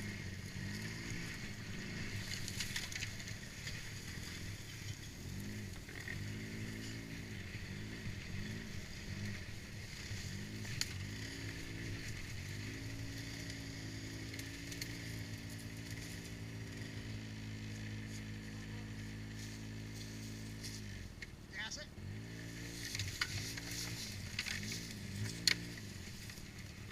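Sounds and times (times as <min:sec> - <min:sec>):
atv engine revving: 0:00.0 - 0:26.9.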